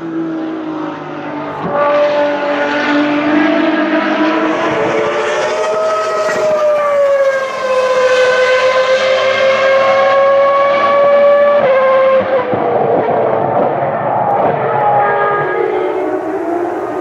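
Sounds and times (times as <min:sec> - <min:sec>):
racing car engine at high revs: 0:00.0 - 0:17.0.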